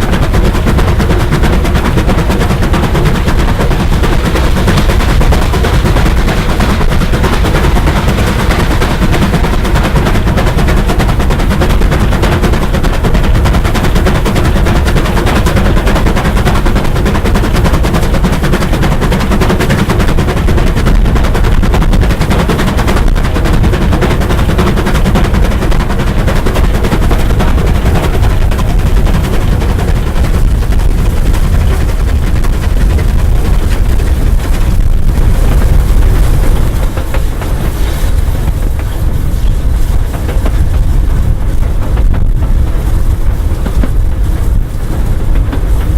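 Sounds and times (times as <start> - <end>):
steam locomotive exhaust beats: 0.0 - 45.9.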